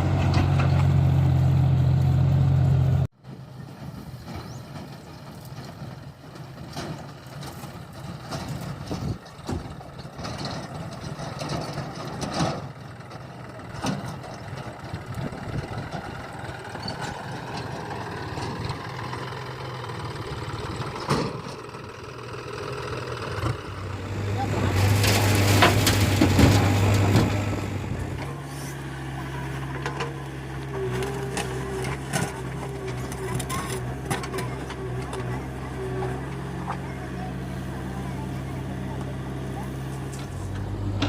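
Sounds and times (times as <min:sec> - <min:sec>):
heavy diesel machinery running: 0:00.0 - 0:41.0
loud diesel engine drone: 0:00.0 - 0:41.0.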